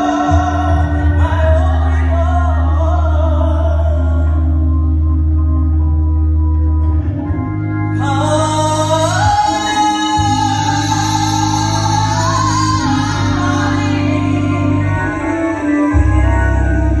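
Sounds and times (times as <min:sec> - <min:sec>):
woman singing gospel: 0:00.0 - 0:04.6, 0:08.0 - 0:17.0
organ chords: 0:00.0 - 0:17.0.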